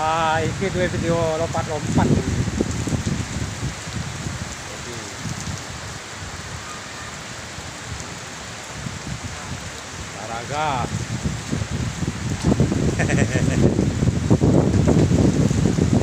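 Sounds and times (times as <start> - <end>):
rain hissing on surfaces: 0.0 - 16.0.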